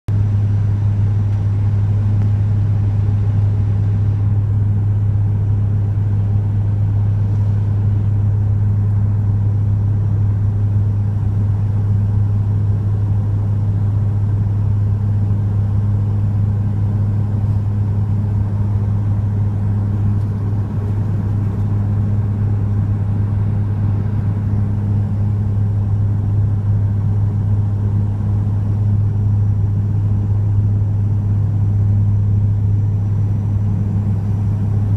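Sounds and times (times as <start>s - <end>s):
airliner engines humming: 0.1s - 34.9s.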